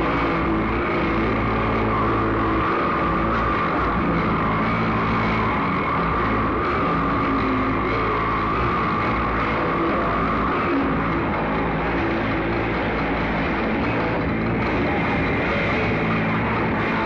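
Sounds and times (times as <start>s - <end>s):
harsh noise wall: 0.0s - 17.0s
low droning notes: 0.0s - 17.0s.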